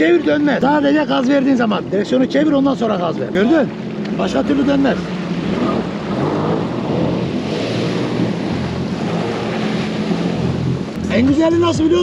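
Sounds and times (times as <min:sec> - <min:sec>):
jet ski engine running: 0:00.0 - 0:12.0
water rushing past hull: 0:00.0 - 0:12.0
wind buffeting microphone: 0:00.0 - 0:12.0.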